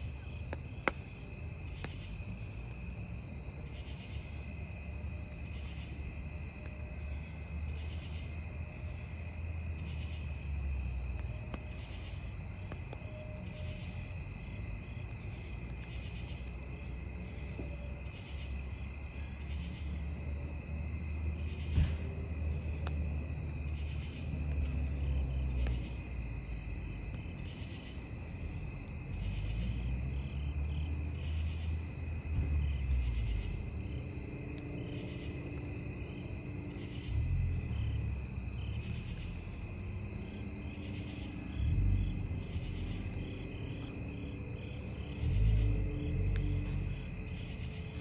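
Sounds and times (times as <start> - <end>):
campfire rumbling: 0.0 - 48.0
crickets chirping: 0.0 - 48.0.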